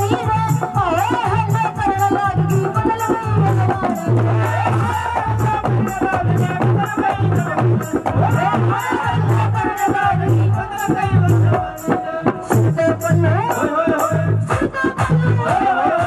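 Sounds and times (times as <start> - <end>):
metallic jingle keeping the beat: 0.0 - 15.2
low drum beats: 0.0 - 16.0.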